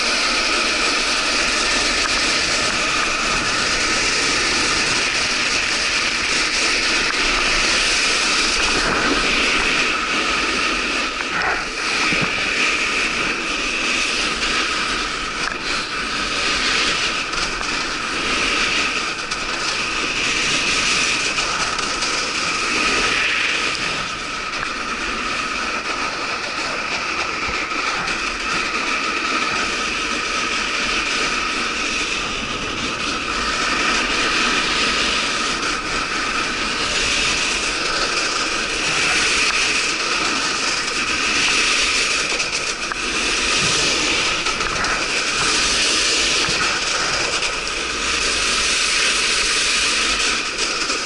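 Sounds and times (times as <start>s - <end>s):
sliding over icy snow: 0.0s - 51.0s
wind on microphone: 0.0s - 51.0s.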